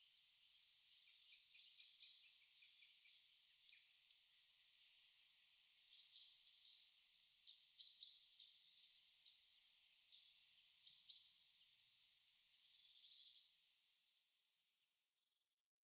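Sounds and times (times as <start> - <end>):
songbirds chirping: 0.0 - 15.6.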